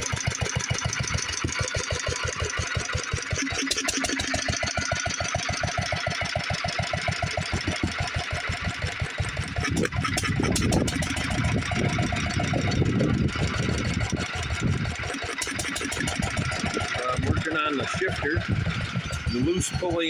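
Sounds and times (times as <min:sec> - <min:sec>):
rough rumbling clatter: 0:00.0 - 0:20.0
single-cylinder engine running: 0:00.0 - 0:20.0.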